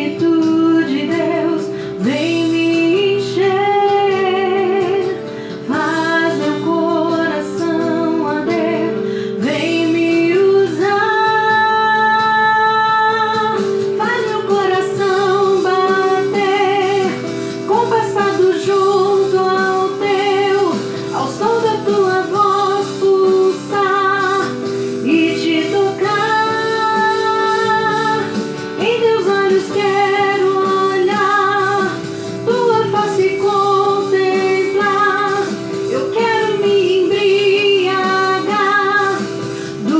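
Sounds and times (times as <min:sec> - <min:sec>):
instrumental accompaniment: 0:00.0 - 0:39.9
woman singing worship song: 0:00.0 - 0:39.9.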